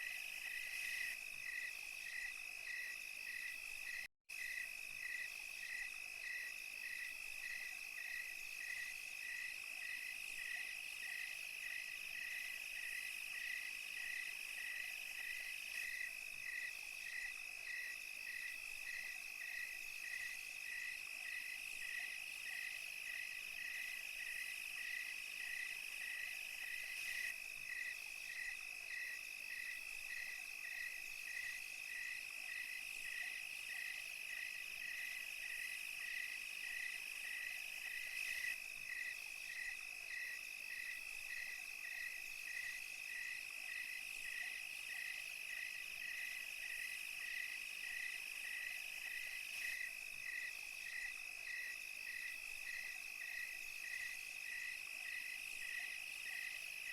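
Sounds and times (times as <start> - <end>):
crickets trilling: 0.0 - 56.9
high insect hiss: 0.0 - 56.9
insect chirping: 0.0 - 56.9.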